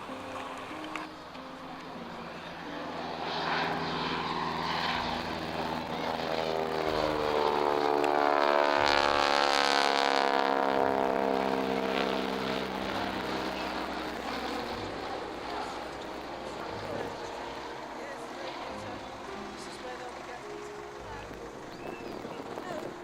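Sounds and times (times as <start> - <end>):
propeller aircraft flying past: 0.0 - 23.0.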